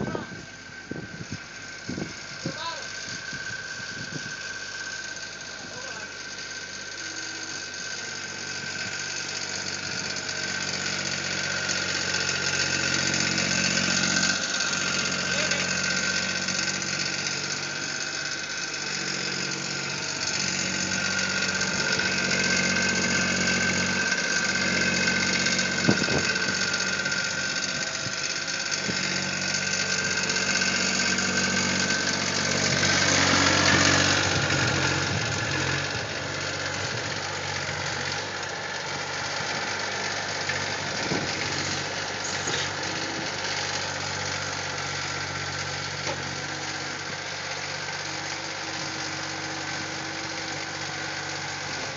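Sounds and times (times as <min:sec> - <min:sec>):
high steady whine: 0:00.0 - 0:45.5
diesel engine running: 0:00.0 - 0:51.9.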